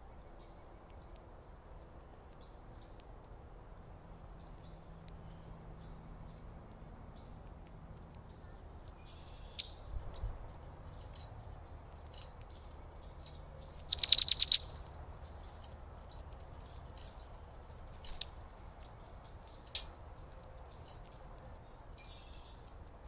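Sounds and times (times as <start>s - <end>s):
bird chirping: 4.3s - 22.9s.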